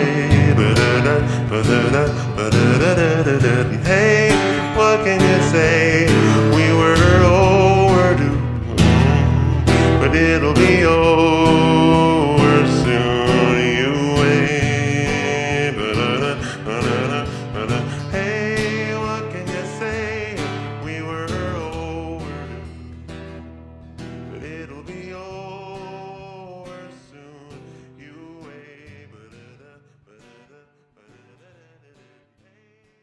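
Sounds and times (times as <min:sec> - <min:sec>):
lingering vocal: 0:00.0 - 0:23.0, 0:24.3 - 0:32.8
reverb-heavy acoustic guitar: 0:00.0 - 0:33.0.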